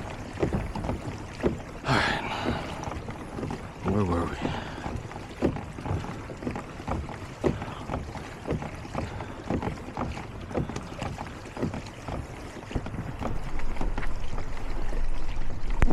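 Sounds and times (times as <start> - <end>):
paddle splashing strokes: 0.0 - 15.9.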